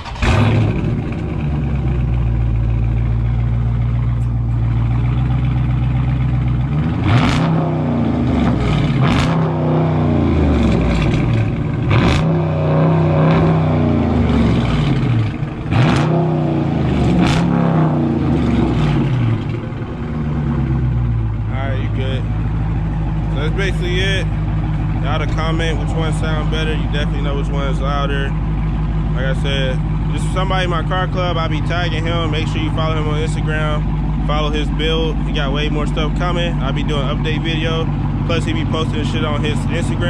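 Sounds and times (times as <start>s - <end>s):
car engine revving: 0.0s - 40.0s
car engine starting and idling: 0.0s - 40.0s.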